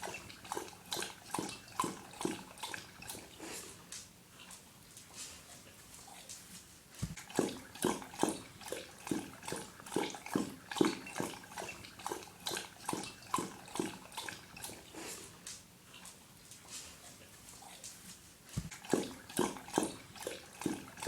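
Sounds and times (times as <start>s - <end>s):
dog lapping water: 0.0s - 5.9s, 6.9s - 21.0s.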